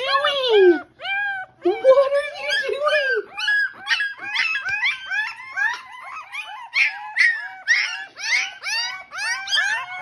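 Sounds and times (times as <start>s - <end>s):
puppies whining and yelping: 0.0s - 10.0s.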